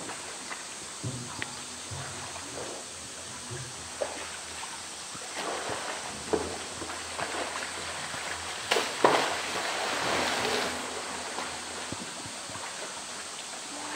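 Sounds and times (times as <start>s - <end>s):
water sloshing and splashing: 0.0s - 13.9s.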